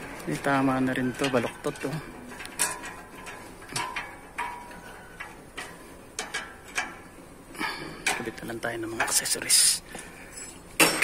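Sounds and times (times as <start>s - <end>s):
metal tools clicking on car parts: 0.0s - 11.0s.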